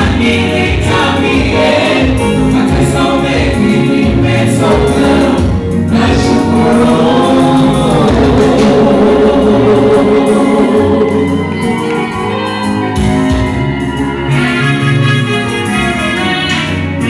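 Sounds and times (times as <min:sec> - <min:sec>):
choir singing: 0:00.0 - 0:14.4
amplified instrumental backing: 0:00.0 - 0:17.0.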